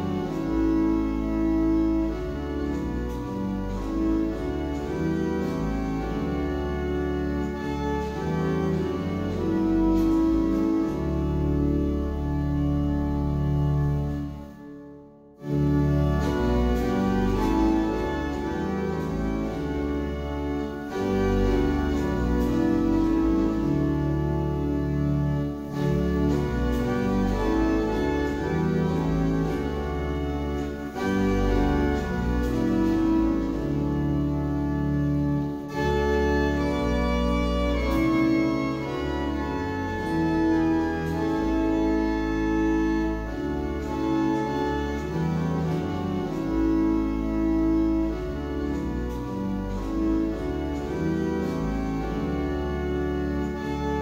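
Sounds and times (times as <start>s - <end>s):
organ playing a hymn: 0.0s - 54.0s.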